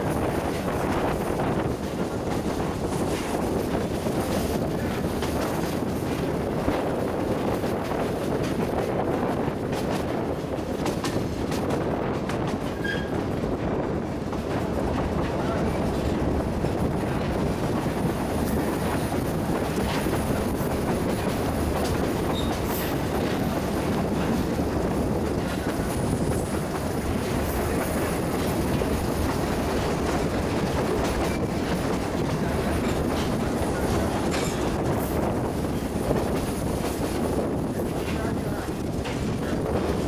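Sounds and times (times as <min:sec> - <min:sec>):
rail clicks: 0:00.0 - 0:40.0
train wheels rumbling on rails: 0:00.0 - 0:40.0.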